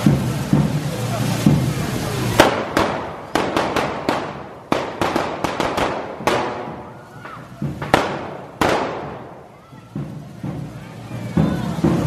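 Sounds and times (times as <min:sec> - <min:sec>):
firecracker bangs: 0:00.0 - 0:12.0.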